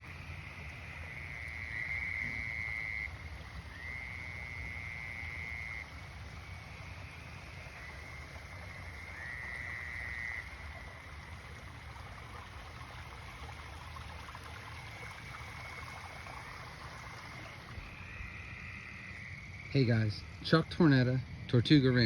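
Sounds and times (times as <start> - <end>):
frog chorus: 0.0 - 22.0
tree frogs trilling: 0.0 - 22.0.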